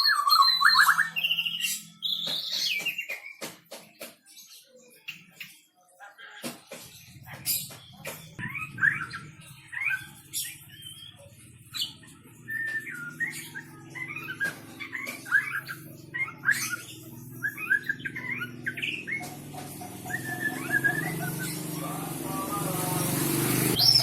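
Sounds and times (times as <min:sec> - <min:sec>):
songbird singing whistled phrases: 0:00.0 - 0:03.4, 0:07.2 - 0:22.6, 0:23.5 - 0:24.0.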